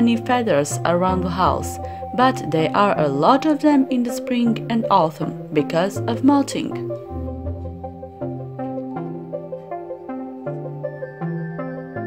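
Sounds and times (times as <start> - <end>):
held bass notes: 0.0 - 10.8
gentle melody of struck notes: 0.0 - 12.0.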